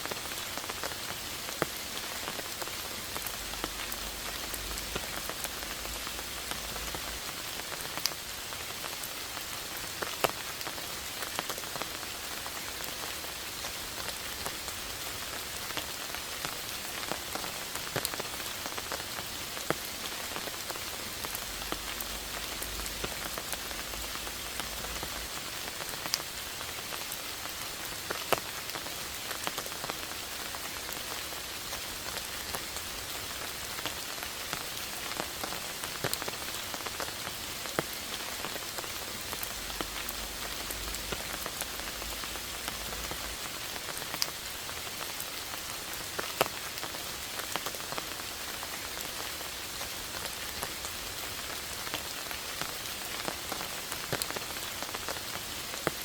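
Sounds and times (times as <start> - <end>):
steady rain falling: 0.0 - 56.0
raindrops ticking close by: 0.1 - 56.0.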